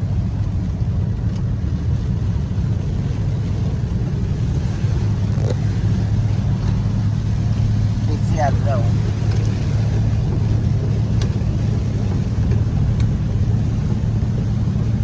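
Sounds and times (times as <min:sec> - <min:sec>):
car engine and tyre noise: 0:00.0 - 0:15.0
rain and spray hiss: 0:00.0 - 0:15.0.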